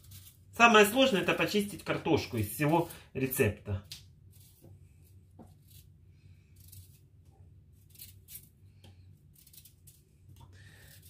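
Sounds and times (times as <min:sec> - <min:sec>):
potato peeling scrapes: 0:00.0 - 0:11.0.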